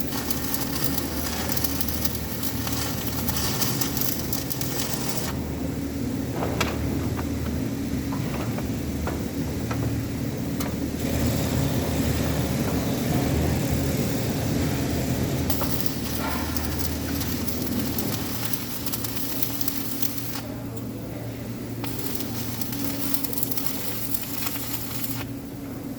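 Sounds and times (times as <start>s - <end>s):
machine humming: 0.0s - 25.9s
welding arc crackling: 0.0s - 25.9s.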